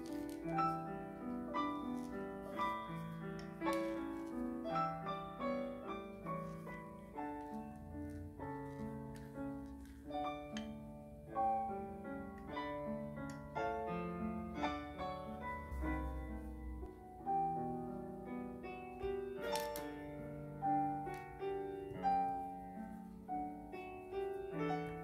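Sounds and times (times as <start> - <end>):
background piano music: 0.0 - 25.0.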